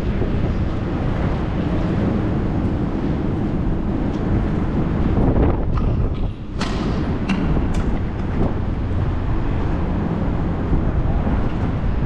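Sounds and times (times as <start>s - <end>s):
low rumbling: 0.0s - 12.0s.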